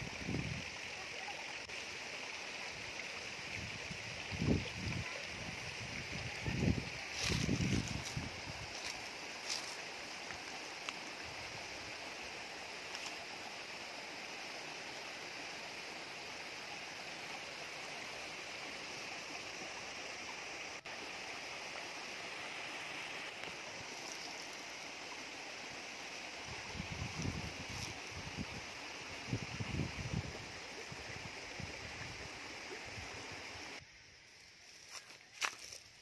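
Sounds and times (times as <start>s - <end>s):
stream running over stones: 0.0s - 36.0s.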